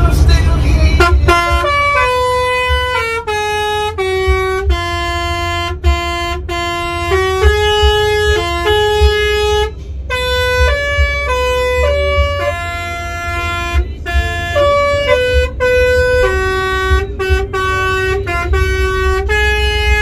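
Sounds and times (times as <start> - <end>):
bus engine rumble: 0.0 - 20.0
bus musical horn playing a tune: 0.6 - 20.0.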